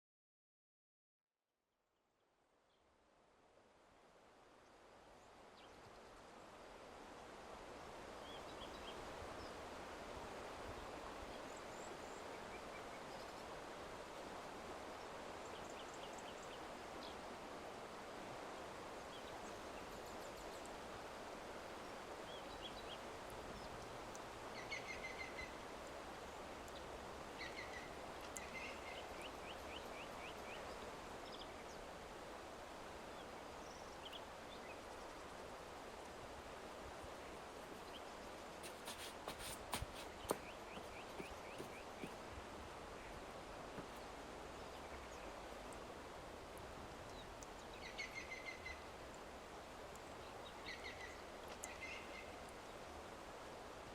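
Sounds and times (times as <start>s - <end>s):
low steady hiss: 1.6s - 53.9s.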